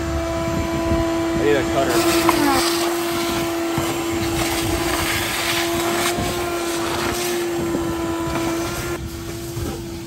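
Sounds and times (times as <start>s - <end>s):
air rushing through hose: 0.0s - 10.0s
shop vacuum motor whine: 0.0s - 10.0s.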